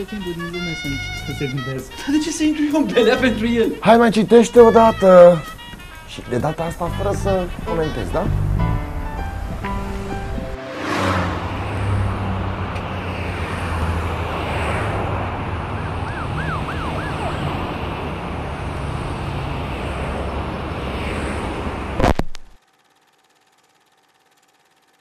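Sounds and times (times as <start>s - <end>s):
street traffic: 0.0s - 22.7s
engine hum: 0.0s - 25.0s.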